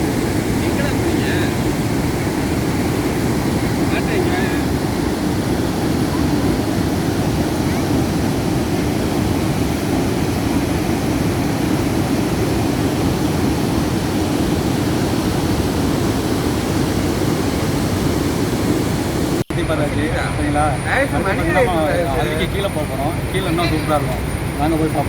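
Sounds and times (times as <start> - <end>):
waterfall rushing: 0.0 - 22.8.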